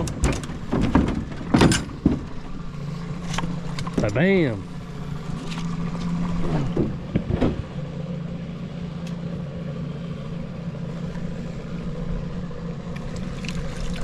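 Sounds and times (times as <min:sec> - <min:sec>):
boat motor idling: 0:00.0 - 0:14.0.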